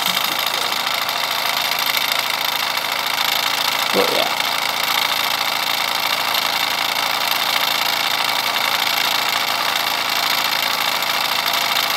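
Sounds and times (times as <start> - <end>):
flywheel mechanical clatter: 0.0 - 11.9
toy steam engine chuffing: 0.0 - 11.9.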